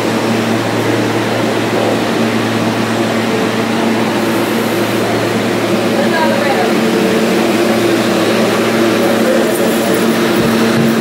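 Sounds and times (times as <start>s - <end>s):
subway train equipment hum: 0.0s - 11.0s.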